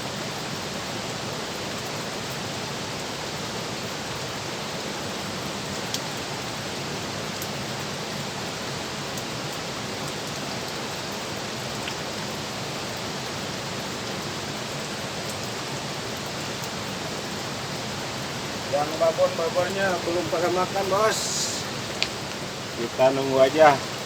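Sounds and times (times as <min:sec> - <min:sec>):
fast-flowing water rushing: 0:00.0 - 0:24.0.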